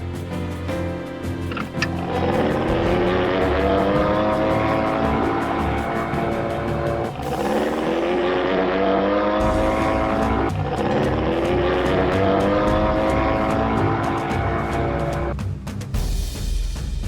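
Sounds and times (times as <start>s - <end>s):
vehicle engine accelerating: 1.5s - 15.4s.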